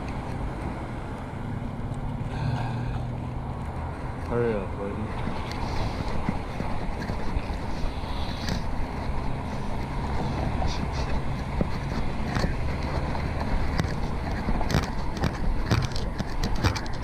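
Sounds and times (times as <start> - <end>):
passing traffic: 0.0 - 17.0
road rumble: 0.0 - 17.0
wind buffeting microphone: 3.0 - 17.0.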